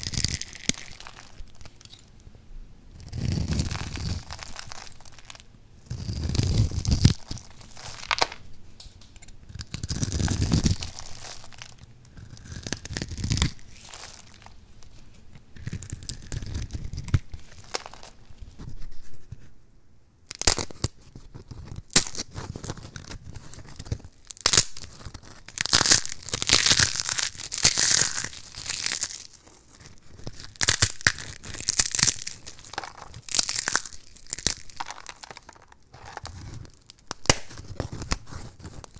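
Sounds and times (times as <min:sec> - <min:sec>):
soap cubes crunching: 0:00.0 - 0:02.2, 0:03.0 - 0:14.9, 0:15.5 - 0:18.2, 0:20.3 - 0:21.0, 0:21.6 - 0:38.9
soap crust crackling and snapping: 0:00.0 - 0:02.3, 0:03.0 - 0:18.4, 0:20.3 - 0:38.9.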